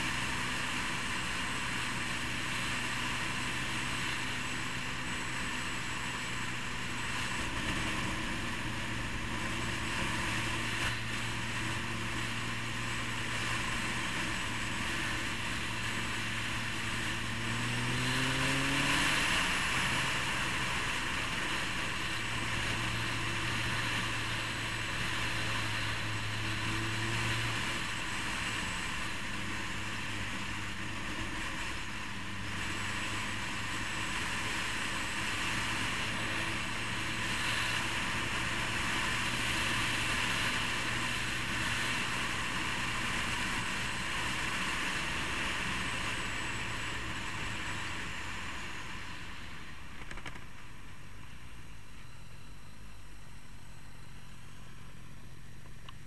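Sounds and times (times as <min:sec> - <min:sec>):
motorcycle engine running: 0:00.0 - 0:56.0
road noise: 0:00.0 - 0:56.0.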